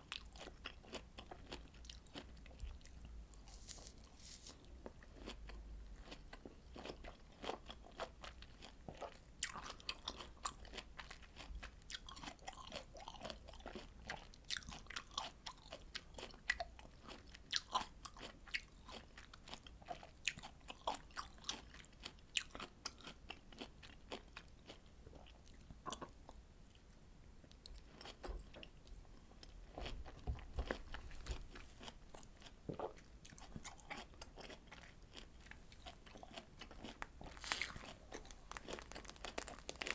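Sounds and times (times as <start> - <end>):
person chewing citrus fruit: 0.0 - 26.4, 27.6 - 39.9.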